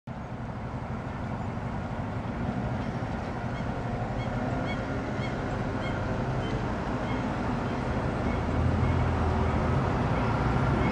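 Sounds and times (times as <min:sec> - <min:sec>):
city street traffic rumble: 0:00.1 - 0:10.9
heavy vehicle engine approaching: 0:00.1 - 0:10.9.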